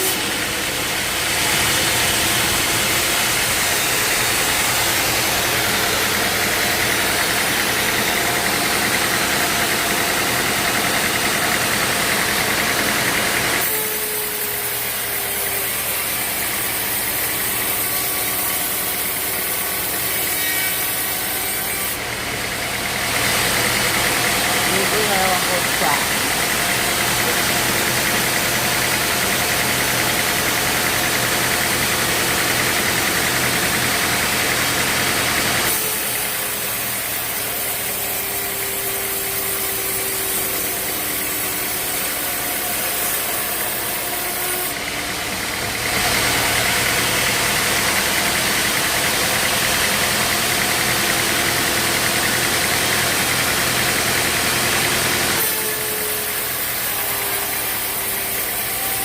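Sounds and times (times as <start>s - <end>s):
sawmill machinery humming: 0.0s - 59.0s.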